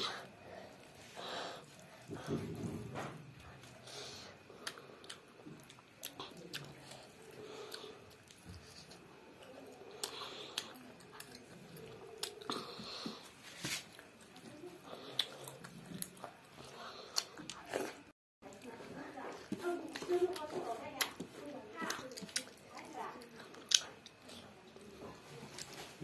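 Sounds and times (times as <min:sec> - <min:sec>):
child chewing with lip smacks: 0:00.0 - 0:26.0.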